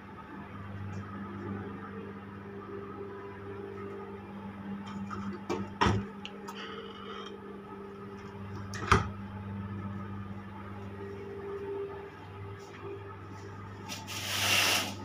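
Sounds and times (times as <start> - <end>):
low ship machinery hum: 0.0 - 15.0.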